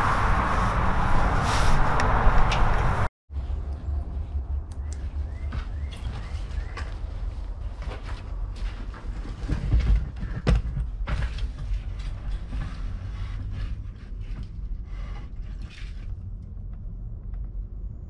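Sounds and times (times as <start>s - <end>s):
low rumble: 0.0s - 9.8s, 11.7s - 18.0s.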